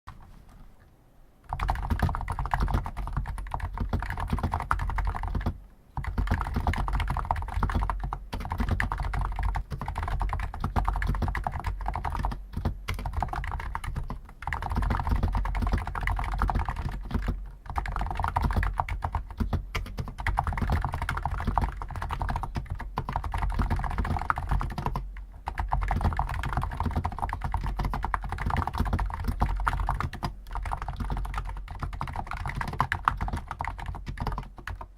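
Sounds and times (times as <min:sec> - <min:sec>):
fast keyboard typing: 0:01.5 - 0:34.9.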